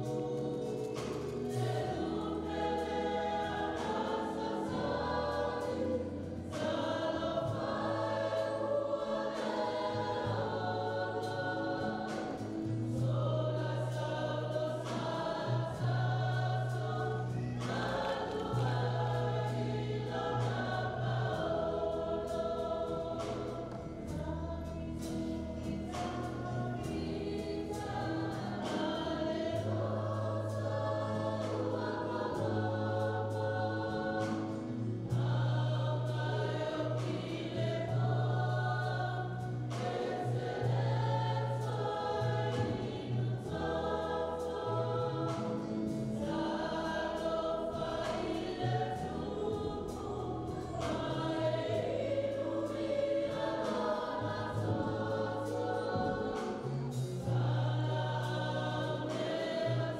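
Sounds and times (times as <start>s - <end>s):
mixed choir singing in harmony: 0.0s - 59.9s.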